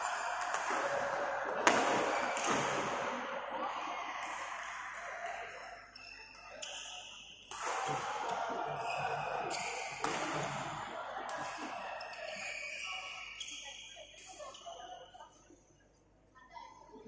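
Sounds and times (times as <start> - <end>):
hubbub of distant voices: 0.0 - 17.0.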